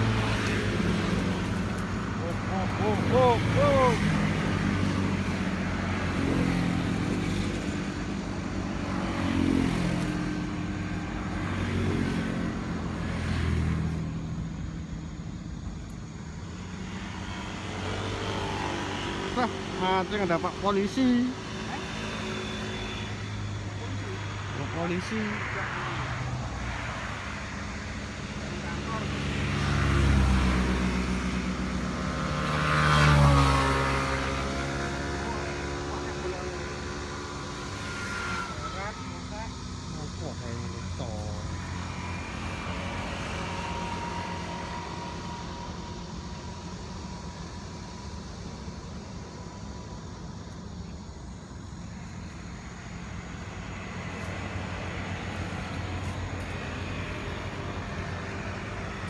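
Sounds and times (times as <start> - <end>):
passing vehicle engine hum: 0.0 - 59.0.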